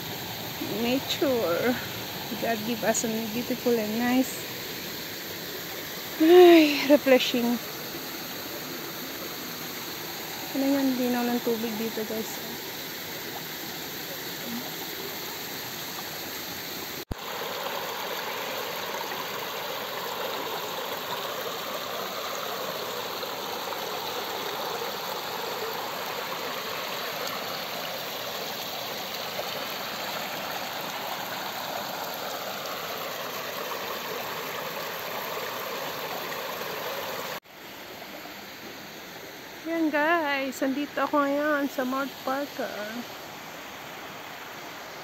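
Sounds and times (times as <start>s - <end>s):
stream rushing over rocks: 0.0s - 45.0s.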